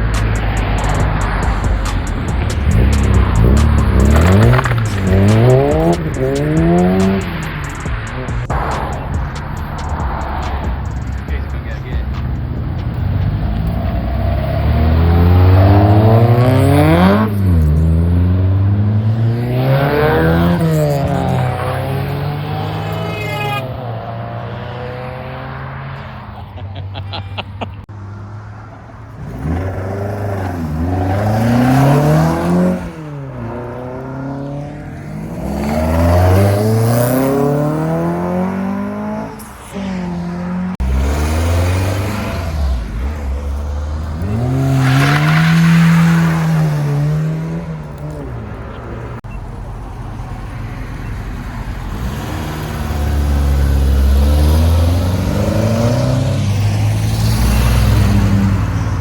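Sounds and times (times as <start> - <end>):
cars accelerating: 0.0 - 59.0.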